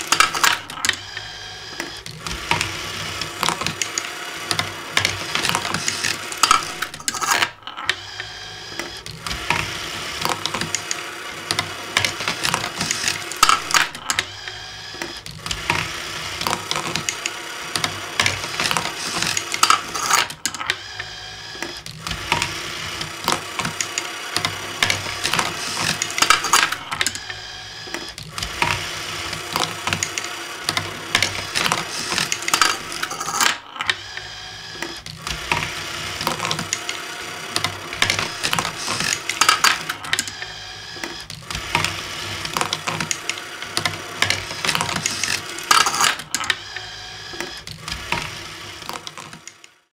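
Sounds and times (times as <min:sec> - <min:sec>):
marbles clicking and rattling on tracks: 0:00.0 - 0:01.2, 0:01.8 - 0:08.0, 0:08.7 - 0:20.8, 0:21.5 - 0:34.0, 0:34.7 - 0:46.6, 0:47.3 - 0:49.8
small mechanisms whirring: 0:00.0 - 0:49.9.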